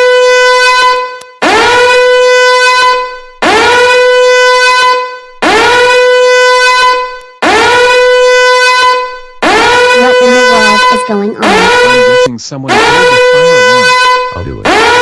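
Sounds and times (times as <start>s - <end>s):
fire alarm horn tone: 0.0s - 15.0s.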